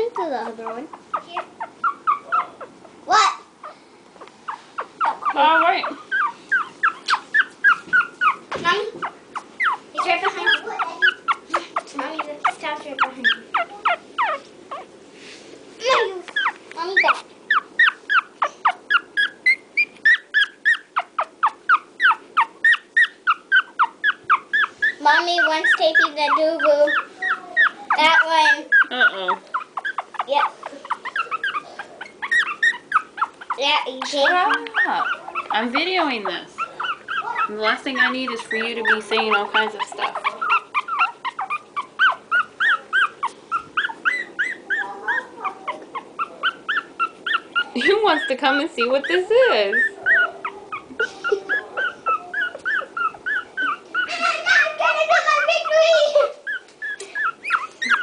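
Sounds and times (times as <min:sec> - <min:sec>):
puppy yelping: 0:00.0 - 0:15.0, 0:15.8 - 0:58.0.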